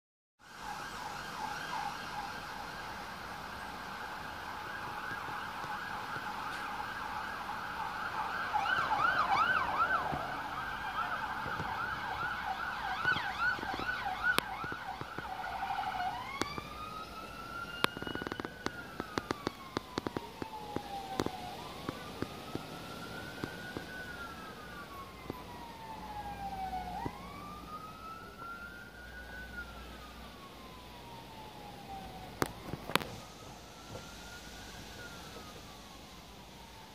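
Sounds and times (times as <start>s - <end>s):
fire engine siren: 0.4s - 36.9s.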